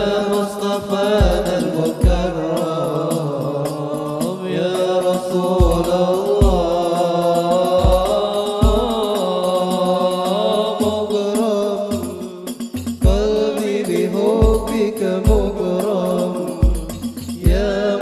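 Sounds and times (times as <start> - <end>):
frame drum patter: 0.0 - 2.8, 4.8 - 10.0, 10.8 - 18.0
wavering sung melody: 0.0 - 18.0.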